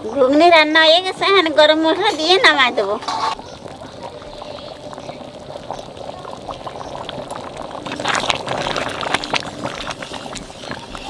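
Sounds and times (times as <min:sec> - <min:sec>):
curry bubbling in a pan: 0:00.0 - 0:11.0.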